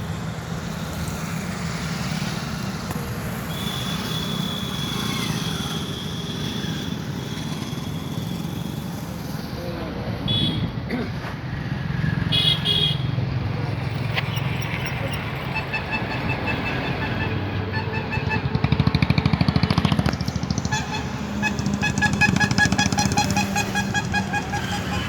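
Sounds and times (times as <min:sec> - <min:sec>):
construction machinery engine hum: 0:00.0 - 0:25.0.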